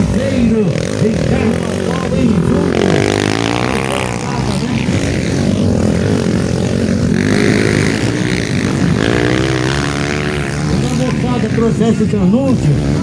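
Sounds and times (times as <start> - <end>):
motocross bike engines racing: 0.0 - 13.0.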